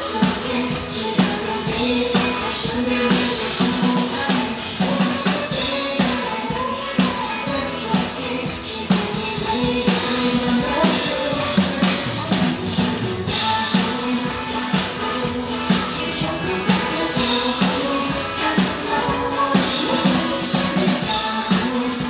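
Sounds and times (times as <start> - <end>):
drum kit steady beat: 0.0 - 22.0
person singing pop song: 0.0 - 22.0.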